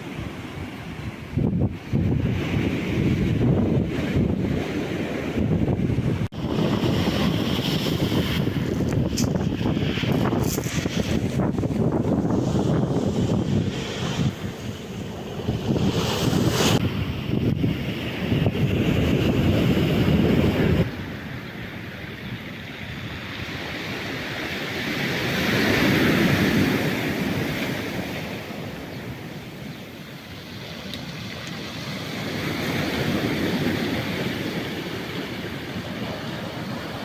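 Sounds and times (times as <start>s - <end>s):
waves breaking on shore: 0.0s - 37.0s
wind on microphone: 0.0s - 37.0s.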